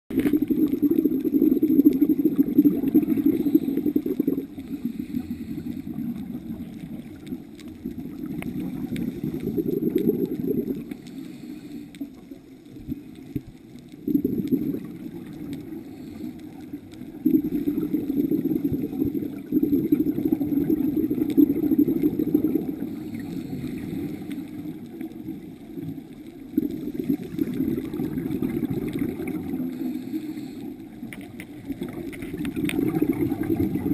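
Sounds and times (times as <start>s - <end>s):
scuba regulator bubbles underwater: 0.1s - 33.9s.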